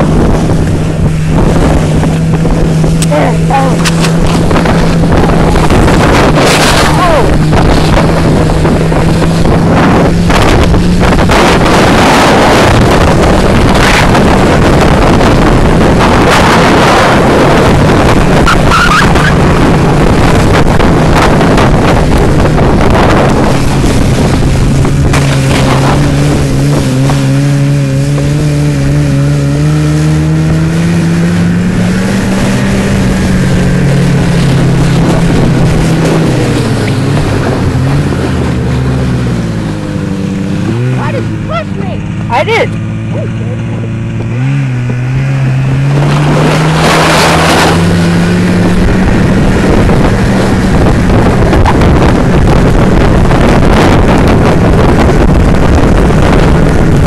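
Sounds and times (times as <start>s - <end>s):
snowmobile engine running: 0.0s - 57.0s
wind noise on microphone: 0.0s - 57.0s.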